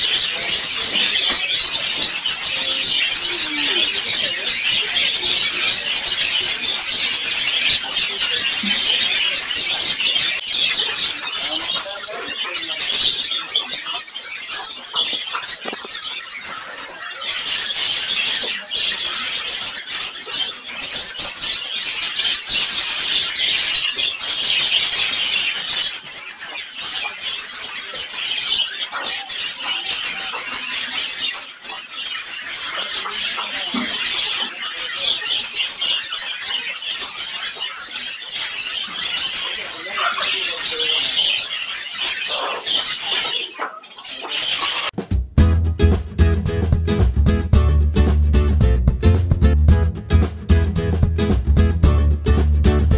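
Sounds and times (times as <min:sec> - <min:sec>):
small birds chattering and chirping: 0:00.0 - 0:45.0.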